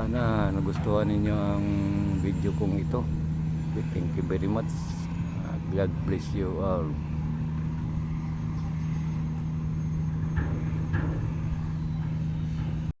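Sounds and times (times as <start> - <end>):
engine hum with low rumble: 0.0 - 13.0.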